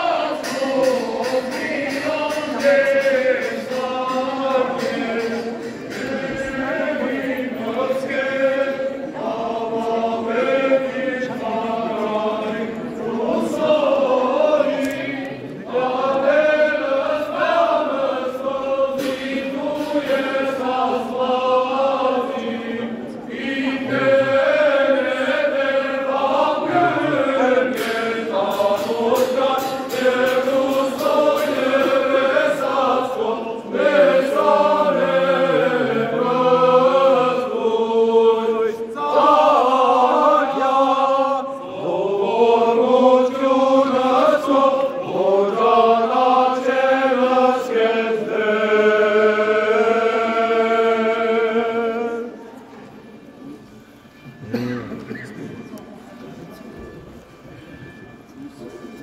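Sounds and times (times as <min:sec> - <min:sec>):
voices chanting a hymn in unison: 0:00.0 - 0:53.8.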